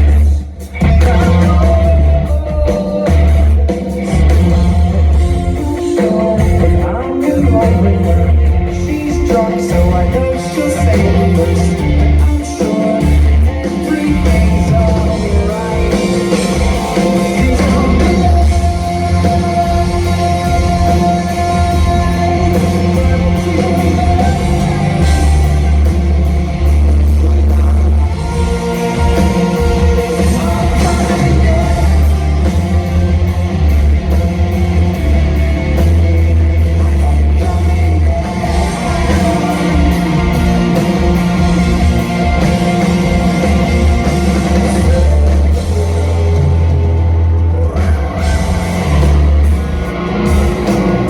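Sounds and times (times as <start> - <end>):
drums on cymbals: 0.0 - 51.0
person singing lead vocal: 0.0 - 51.0
rock band playing live: 0.0 - 51.0.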